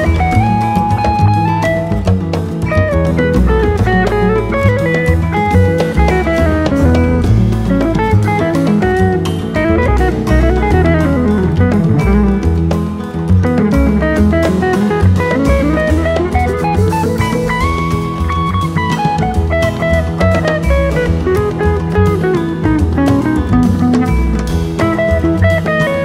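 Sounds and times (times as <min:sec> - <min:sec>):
drum kit beat: 0:00.0 - 0:26.0
guitar instrumental: 0:00.0 - 0:26.0.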